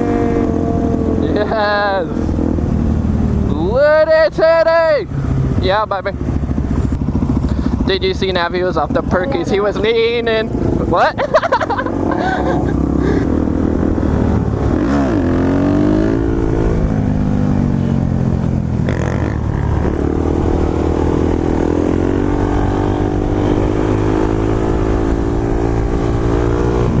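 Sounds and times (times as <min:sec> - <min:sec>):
motorcycle engine revving: 0:00.0 - 0:03.9, 0:05.0 - 0:27.0.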